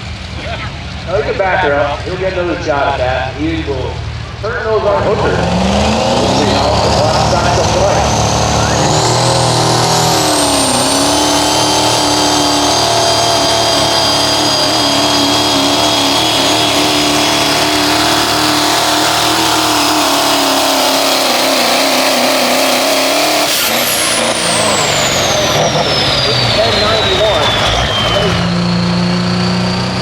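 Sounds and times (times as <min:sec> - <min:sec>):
truck engine at full throttle: 0:00.0 - 0:30.0
high-pitched whine: 0:02.0 - 0:30.0.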